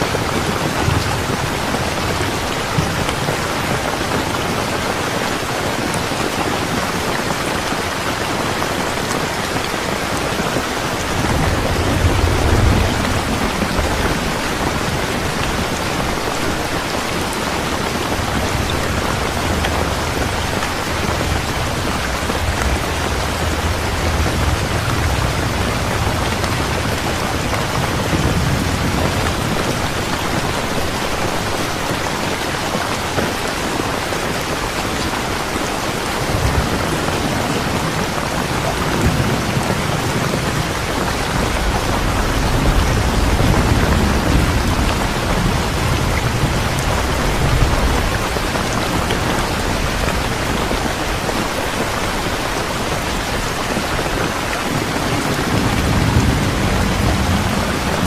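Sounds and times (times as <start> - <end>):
heavy rain falling: 0.0 - 58.0
distant thunder rumbling: 8.6 - 31.7, 34.6 - 58.0.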